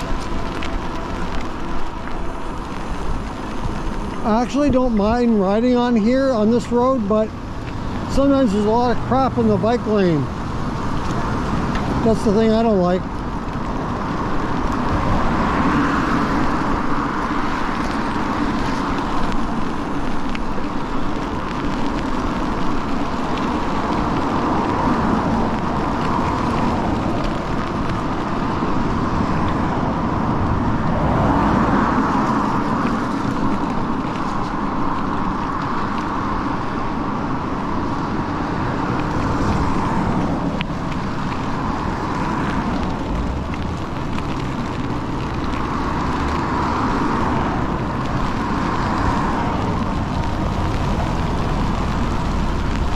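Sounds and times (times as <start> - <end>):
cars passing: 0.0 - 52.9
traffic hum: 0.0 - 52.9
tyres hissing on wet pavement: 0.0 - 52.9.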